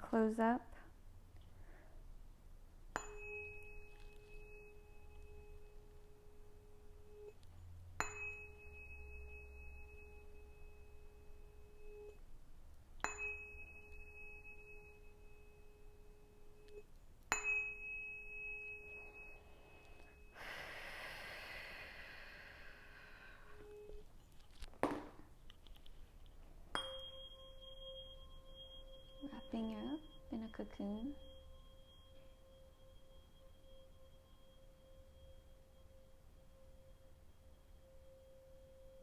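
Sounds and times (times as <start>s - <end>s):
tuning fork struck and ringing: 2.9s - 24.4s, 26.5s - 39.0s.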